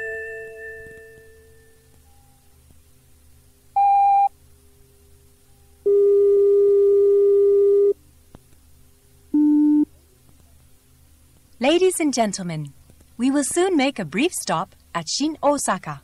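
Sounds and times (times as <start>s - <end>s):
steady low signal tone: 0.0s - 16.0s
tape hiss: 0.0s - 16.0s.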